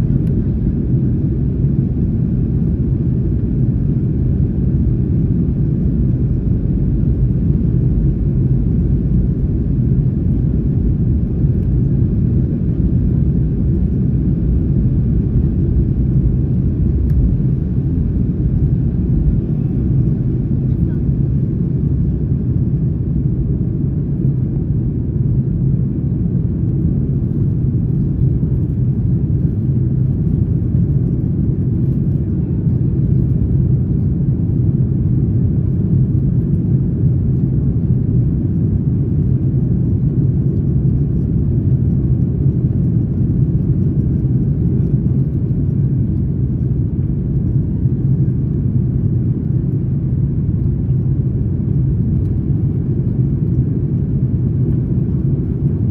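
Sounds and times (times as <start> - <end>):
airplane engine rumble in cabin: 0.0 - 55.9.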